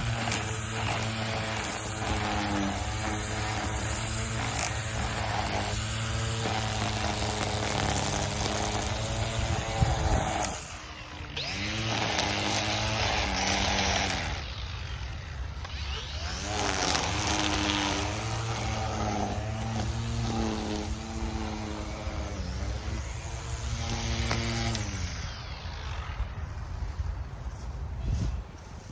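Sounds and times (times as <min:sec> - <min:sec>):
small gas engine revving: 0:00.0 - 0:27.2.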